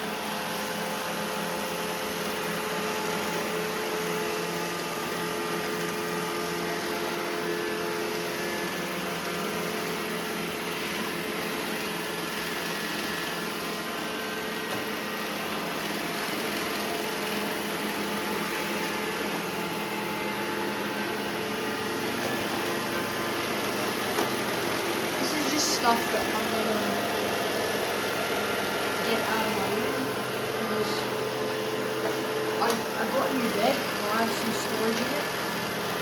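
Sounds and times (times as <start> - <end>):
motor humming tones: 0.0 - 36.0
robot vacuums whirring: 1.4 - 36.0.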